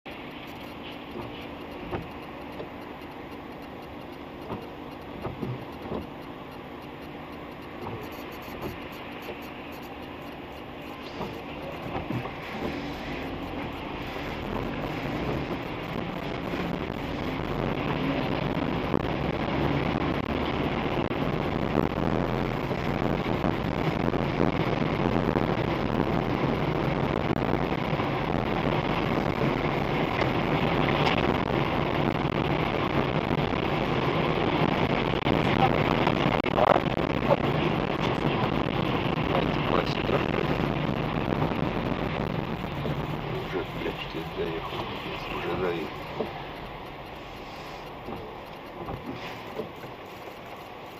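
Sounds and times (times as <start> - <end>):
vehicle and road rumble: 0.0 - 50.9
rising whine: 0.1 - 50.9.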